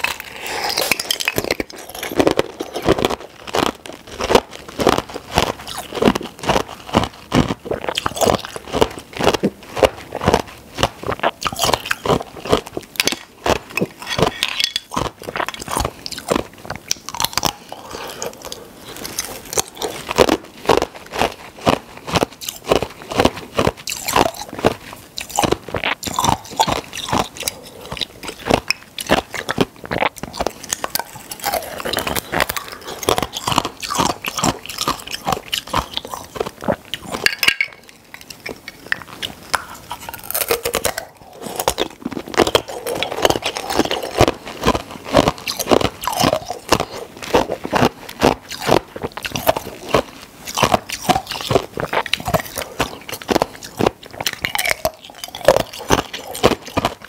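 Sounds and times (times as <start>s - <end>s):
chewing ice crunches: 0.0s - 57.0s.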